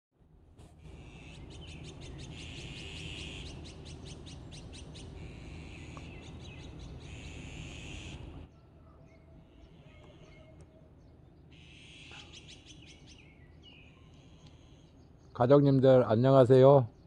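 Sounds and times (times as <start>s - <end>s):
songbird singing with trills: 0.9s - 17.0s.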